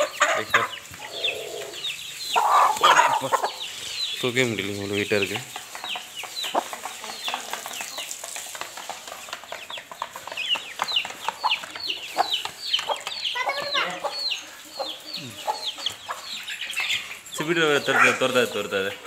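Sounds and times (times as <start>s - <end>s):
birds pecking grain in a tray: 0.0s - 19.0s
chicks peeping: 0.0s - 19.0s.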